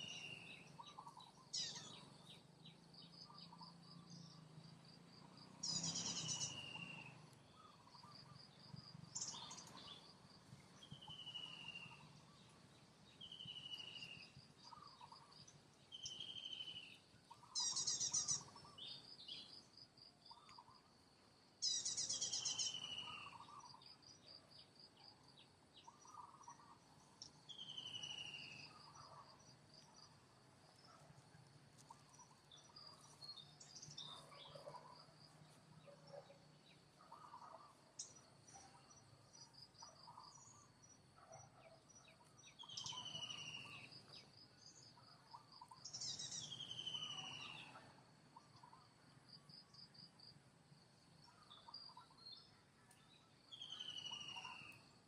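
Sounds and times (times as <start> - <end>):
insects buzzing and chirping: 0.0 - 55.0.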